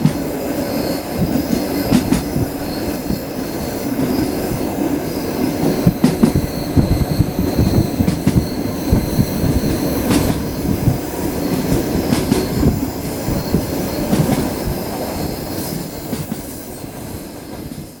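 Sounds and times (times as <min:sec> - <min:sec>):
train rumbling over rails: 0:00.0 - 0:18.0.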